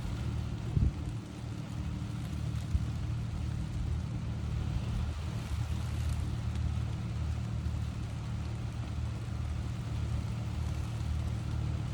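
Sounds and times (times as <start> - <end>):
gentle rain hiss: 0.0 - 11.9
steady low rumble: 0.0 - 11.9.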